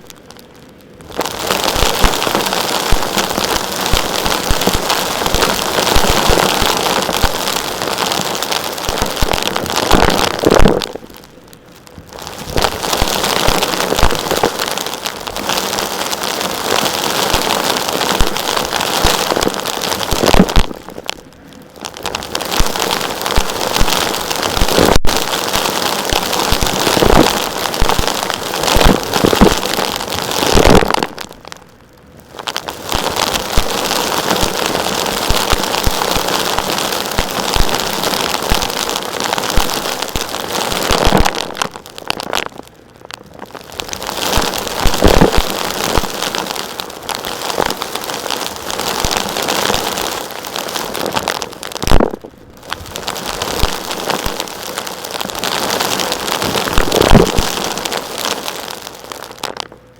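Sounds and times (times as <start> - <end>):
gritty crackling of rocky material: 0.0 - 59.9.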